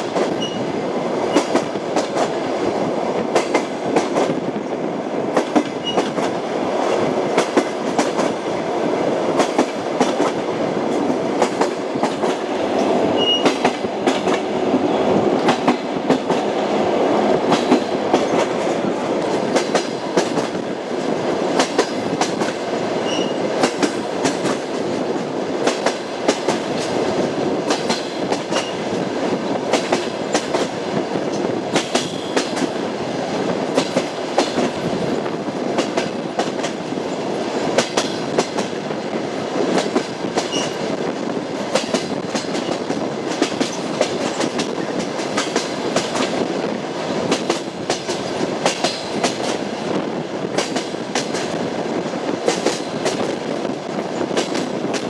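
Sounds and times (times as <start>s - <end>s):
rumble of moving train: 0.0s - 55.0s
train wheels clacking over rail joints: 1.2s - 2.6s, 3.2s - 4.4s, 5.3s - 8.4s, 9.3s - 14.6s, 15.3s - 16.6s, 17.2s - 38.8s, 39.6s - 55.0s.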